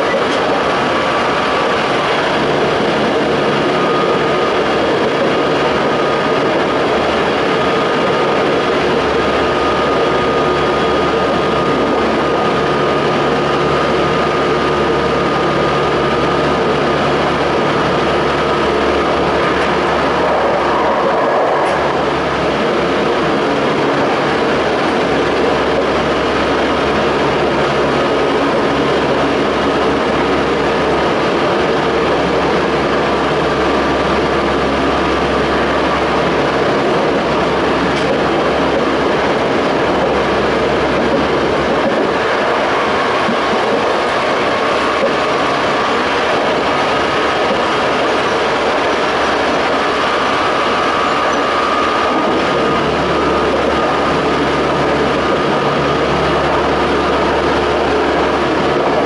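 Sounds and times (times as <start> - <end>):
electric train running: 0.0 - 59.0
high steady whine: 0.0 - 59.0
wheel and rail noise: 0.0 - 59.0.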